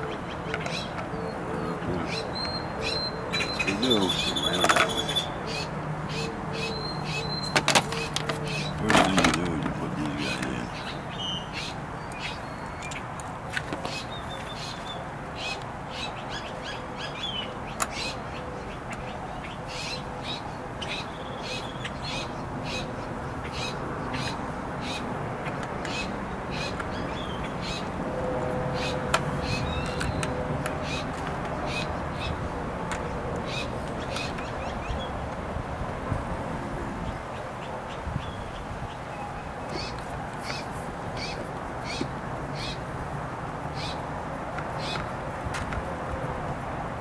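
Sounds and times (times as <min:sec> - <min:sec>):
birds chirping: 0:00.0 - 0:35.3, 0:37.0 - 0:43.0, 0:43.6 - 0:45.3.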